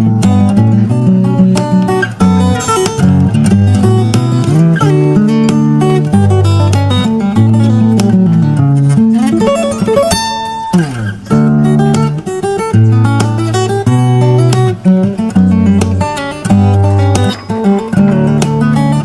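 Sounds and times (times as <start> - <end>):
acoustic guitar melody: 0.0 - 19.0.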